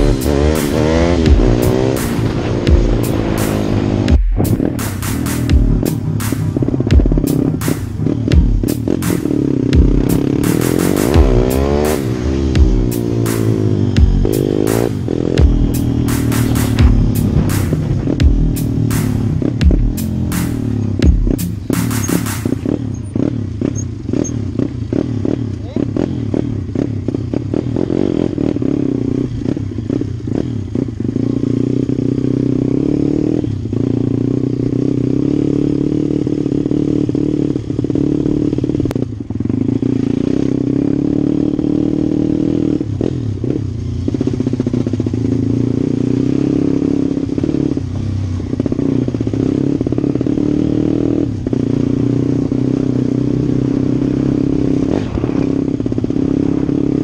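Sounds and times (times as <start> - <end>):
motorbike engine running: 0.0 - 57.0.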